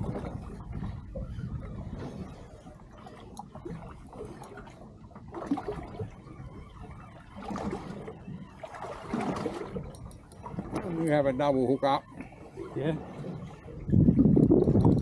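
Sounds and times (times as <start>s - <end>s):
water sloshing against boat hull: 0.0s - 15.0s.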